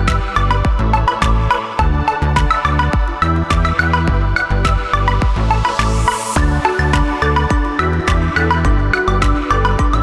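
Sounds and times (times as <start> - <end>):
electronic music with bass: 0.0 - 10.0.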